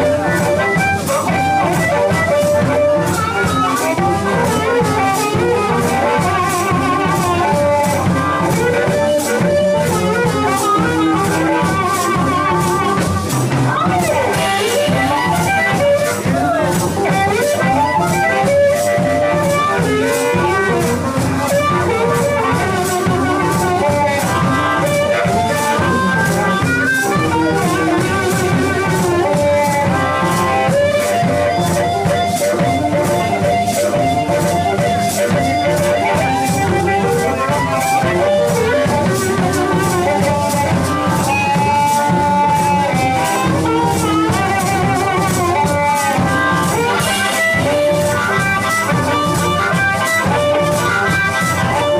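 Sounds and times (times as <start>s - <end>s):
blues harmonica: 0.0s - 51.9s
electric guitar: 0.0s - 51.9s
steady drum beat: 0.0s - 51.9s.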